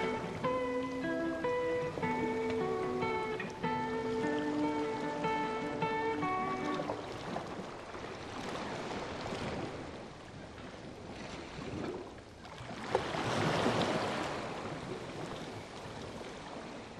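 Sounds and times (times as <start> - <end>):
waves washing: 0.0 - 16.9.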